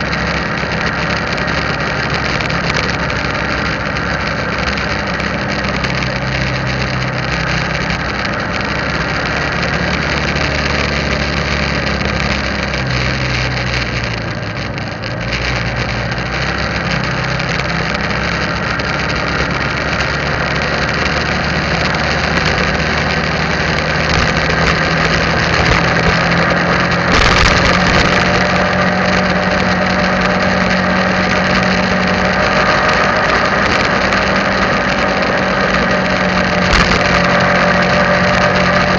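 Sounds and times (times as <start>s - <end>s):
motorbike engine running: 0.0s - 38.9s
wind and road noise: 0.0s - 38.9s.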